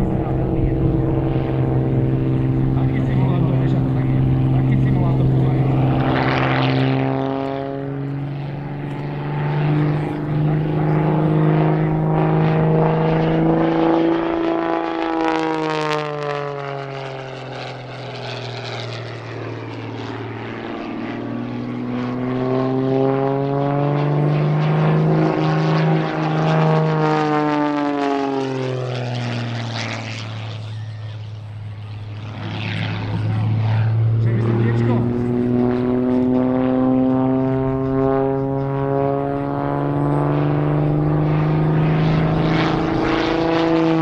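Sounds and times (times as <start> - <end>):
propeller plane engine droning: 0.0 - 44.0.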